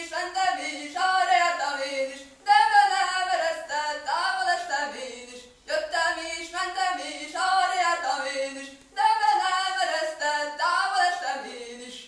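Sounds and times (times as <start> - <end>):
person singing unaccompanied: 0.0 - 12.0.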